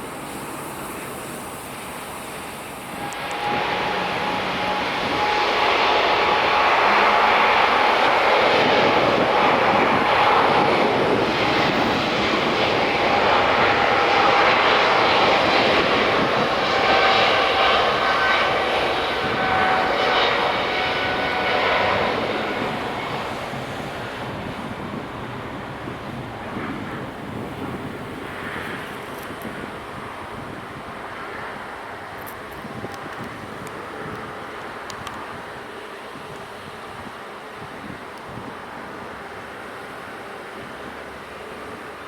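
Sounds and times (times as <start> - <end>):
jet airliner taking off: 0.0 - 42.0.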